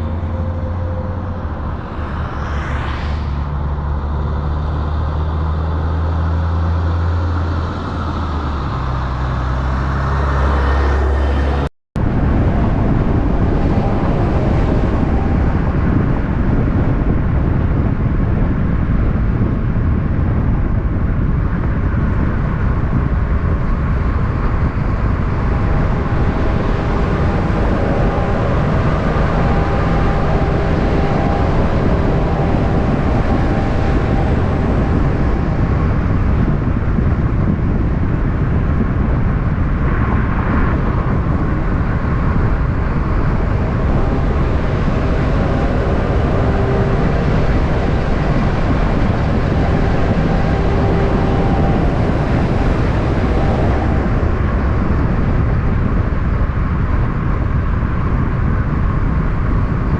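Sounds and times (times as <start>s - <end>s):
road traffic rumble: 0.0s - 59.9s
diesel truck engine running: 3.5s - 59.9s.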